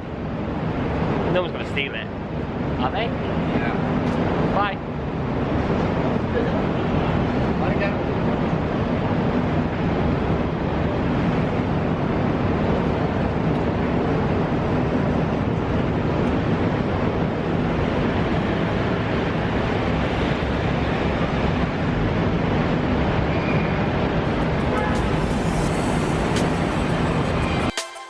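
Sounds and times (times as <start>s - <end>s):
low engine-like hum: 0.0s - 27.7s
traffic rumble: 0.0s - 27.7s.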